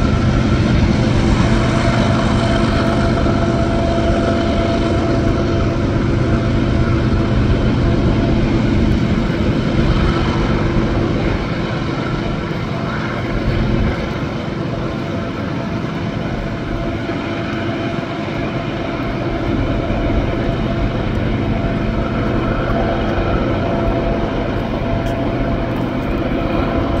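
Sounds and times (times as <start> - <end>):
diesel locomotives working hard: 0.0 - 27.0.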